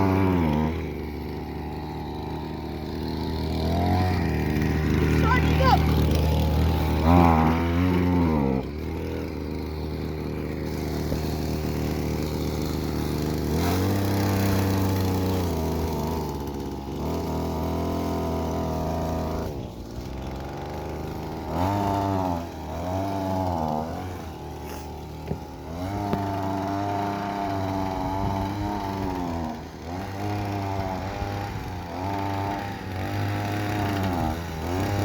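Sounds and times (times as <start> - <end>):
small engine revving: 0.0 - 35.0.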